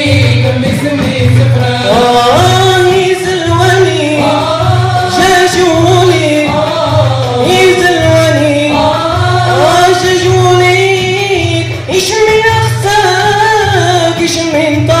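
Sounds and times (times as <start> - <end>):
men singing a chant together: 0.0 - 12.2
frame drums beat: 0.0 - 15.0.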